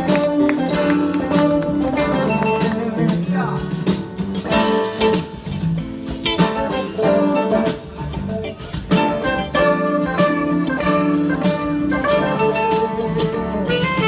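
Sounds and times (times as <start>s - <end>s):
plucked string instrument music: 0.0s - 14.0s.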